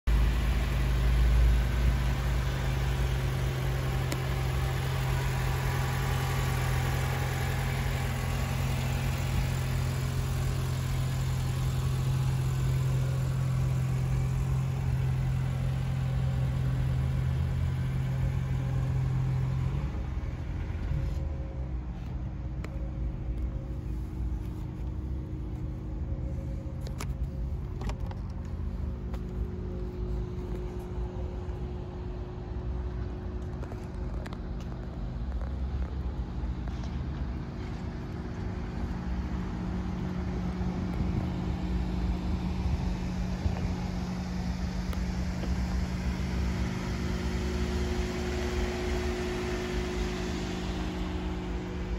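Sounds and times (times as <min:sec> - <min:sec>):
vehicle engine idling: 0:00.0 - 0:51.9.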